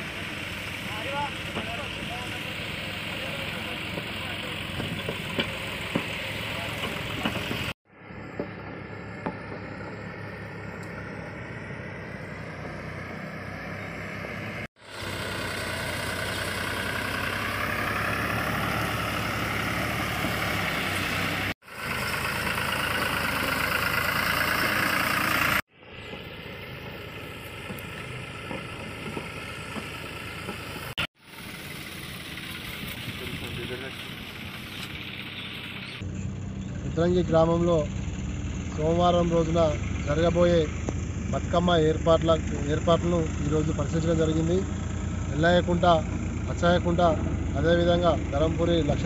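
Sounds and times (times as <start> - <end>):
diesel tractor engines running: 0.0 - 49.0.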